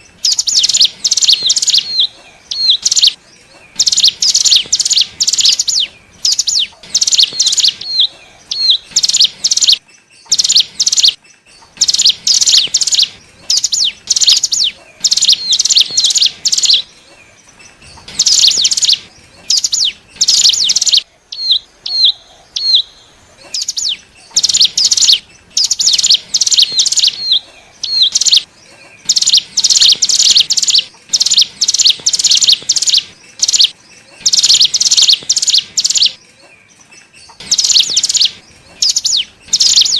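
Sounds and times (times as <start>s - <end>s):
bird chattering call: 0.0s - 36.2s, 37.0s - 39.9s.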